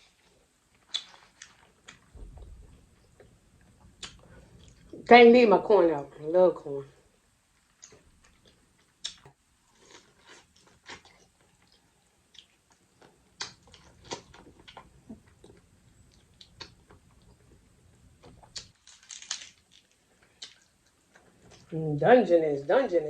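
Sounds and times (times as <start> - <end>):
person chewing: 0.1 - 5.0, 7.6 - 21.7.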